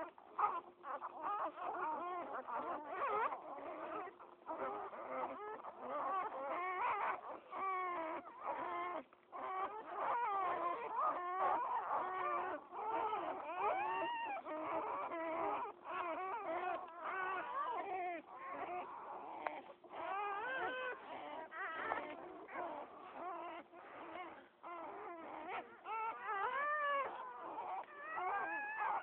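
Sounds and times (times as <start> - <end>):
puppies squealing and whimpering: 0.0 - 29.0.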